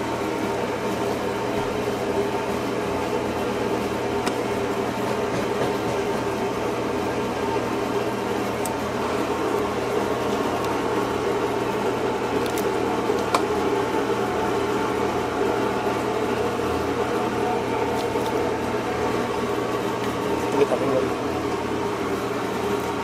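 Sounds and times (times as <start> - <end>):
kitchen machinery humming: 0.0 - 23.0.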